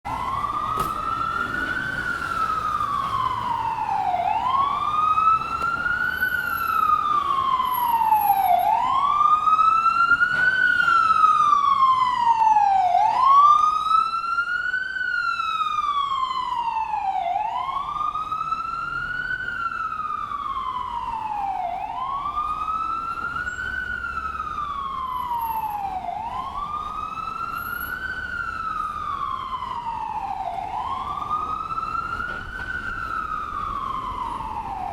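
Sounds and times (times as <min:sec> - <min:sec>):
ambulance siren wailing: 0:00.0 - 0:34.9.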